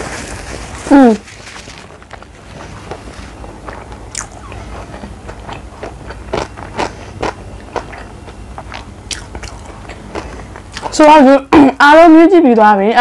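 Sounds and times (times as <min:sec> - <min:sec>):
person chewing crunchy food: 0:00.0 - 0:11.0
low steady hum: 0:00.0 - 0:13.0.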